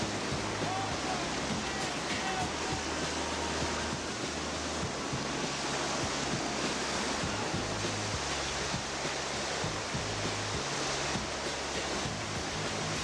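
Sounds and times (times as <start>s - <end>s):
background music bass notes: 0.0s - 6.6s, 7.2s - 13.0s
river whitewater roaring: 0.0s - 13.0s.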